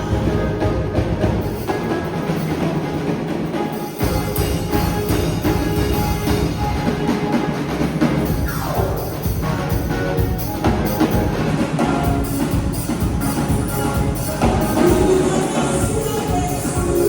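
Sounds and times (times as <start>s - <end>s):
drum kit beat: 0.0s - 17.0s
live band music: 0.0s - 17.0s.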